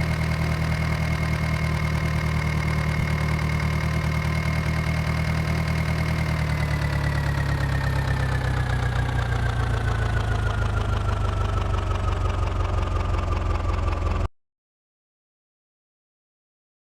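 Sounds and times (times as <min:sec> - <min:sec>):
tractor diesel engine running: 0:00.0 - 0:14.3.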